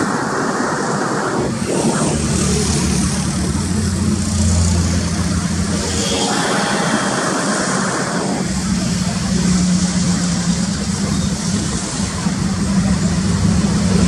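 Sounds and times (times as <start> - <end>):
bright rushing noise: 0.0 - 13.7
jet engines roaring: 0.0 - 14.0.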